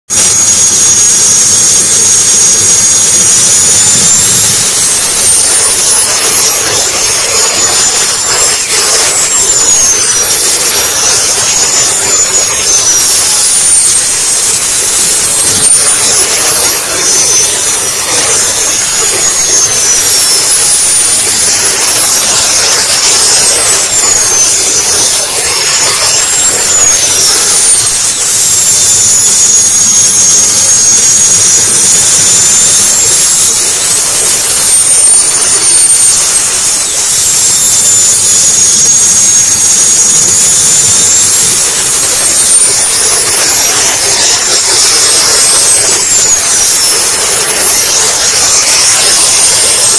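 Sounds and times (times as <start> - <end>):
jet turbine engine whining: 0.0 - 49.9.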